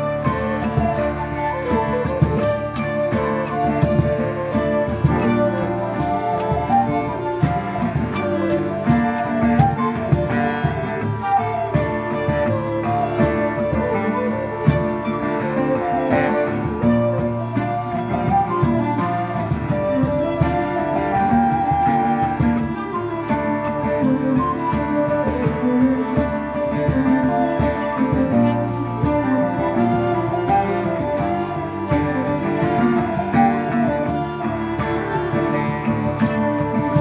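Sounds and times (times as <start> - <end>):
gliding melody line: 0.0 - 37.0
plucked strings: 0.0 - 37.0.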